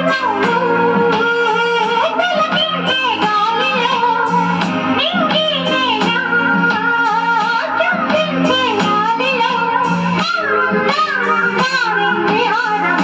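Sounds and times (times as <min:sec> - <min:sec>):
person singing: 0:00.0 - 0:13.0
plucked guitar: 0:00.0 - 0:13.0
steady bass line: 0:00.0 - 0:13.0.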